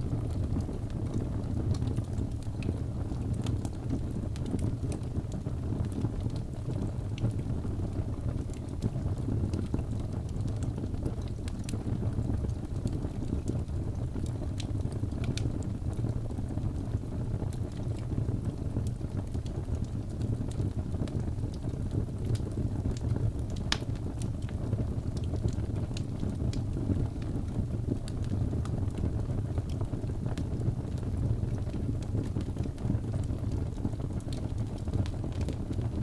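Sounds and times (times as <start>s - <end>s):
fire crackling with pops: 0.0s - 36.0s.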